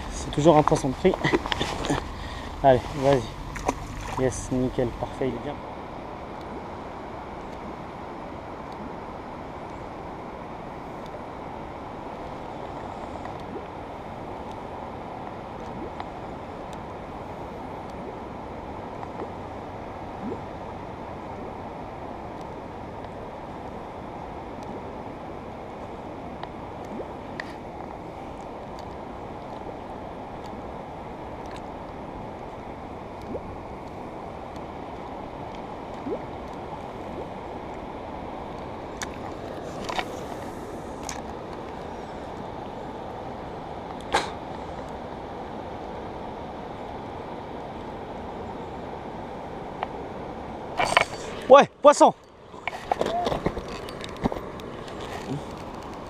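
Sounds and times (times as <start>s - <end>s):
river water: 0.0s - 56.0s.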